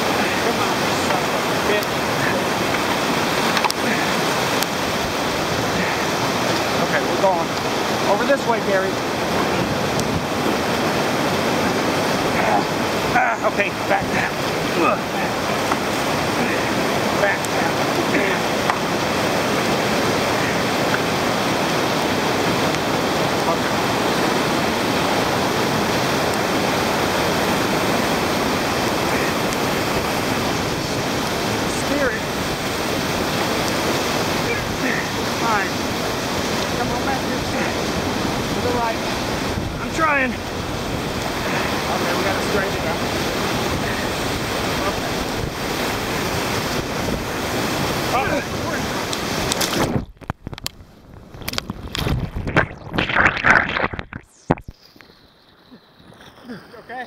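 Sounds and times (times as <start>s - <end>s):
underwater churning and gurgling: 0.0s - 57.0s
water rushing over rocks: 0.0s - 57.0s.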